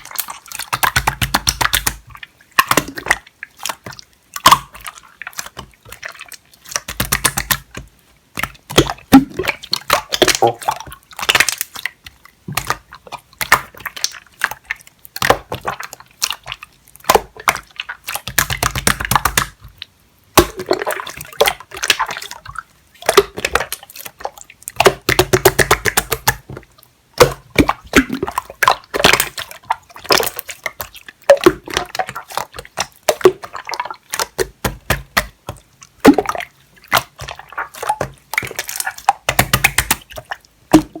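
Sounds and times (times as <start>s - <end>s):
slime squished by hand: 0.0s - 41.0s
wet clicks and bubble pops: 0.0s - 41.0s.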